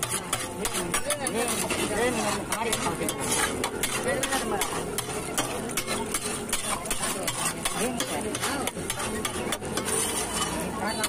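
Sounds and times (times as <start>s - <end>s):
food sizzling on griddle: 0.0s - 11.0s
metal spatula scraping griddle: 0.0s - 11.0s.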